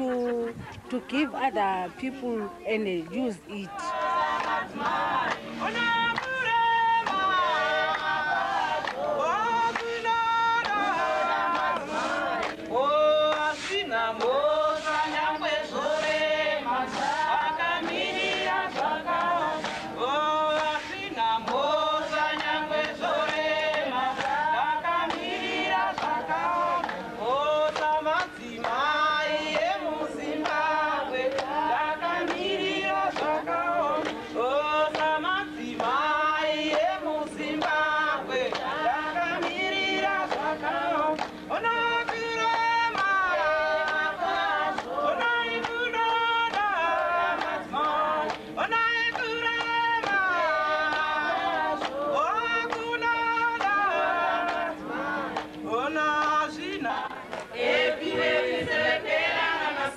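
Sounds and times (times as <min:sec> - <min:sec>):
voices singing a melody: 0:00.0 - 0:59.9.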